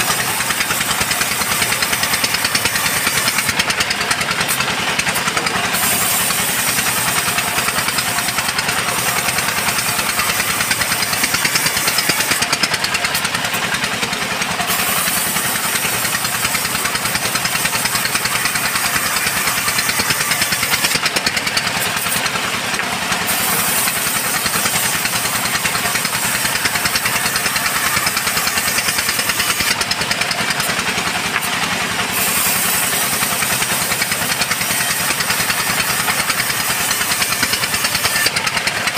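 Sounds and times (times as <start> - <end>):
band sawmill running: 0.0 - 38.9
saw blade hissing through wood: 0.0 - 38.9.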